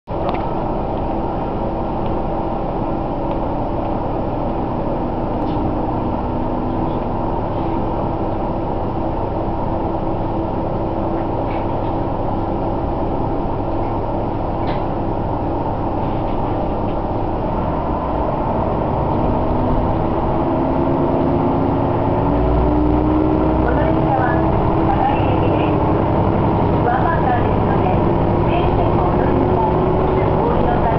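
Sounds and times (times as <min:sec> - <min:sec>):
railcar engine running: 0:00.1 - 0:30.9.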